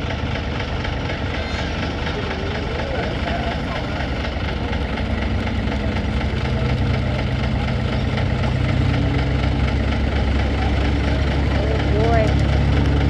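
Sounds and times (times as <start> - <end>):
deeper engine note: 0.0 - 13.0
truck engines droning: 0.0 - 13.0.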